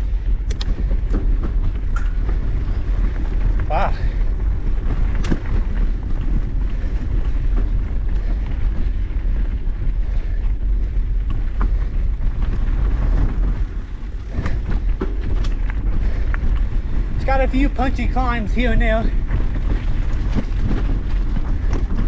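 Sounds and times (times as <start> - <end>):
bike tyres rolling on rock: 0.0 - 22.0
wind on microphone: 0.0 - 22.0
bike clicks and knocks: 0.2 - 9.1, 10.2 - 22.0.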